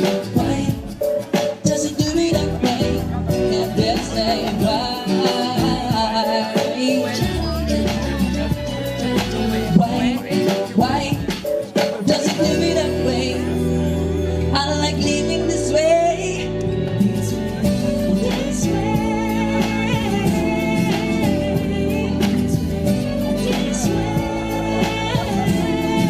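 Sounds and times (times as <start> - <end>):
held instrumental chords: 0.0 - 26.0
person singing: 0.0 - 26.0.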